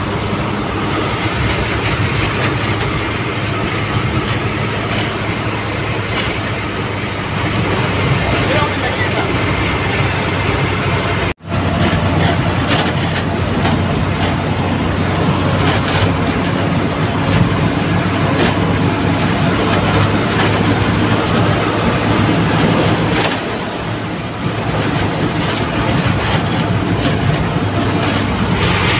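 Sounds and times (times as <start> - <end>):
road noise: 0.0 - 28.9
truck engine running: 0.0 - 28.9.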